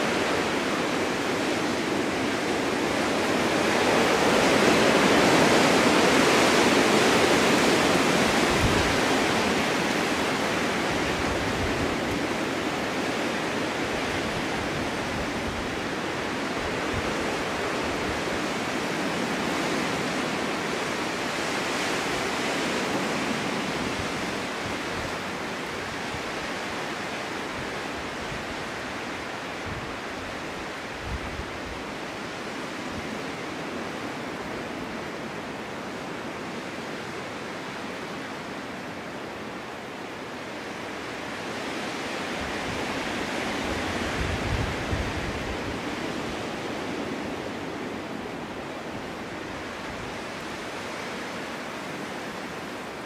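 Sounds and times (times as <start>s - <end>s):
snowstorm wind rushing: 0.0s - 53.0s.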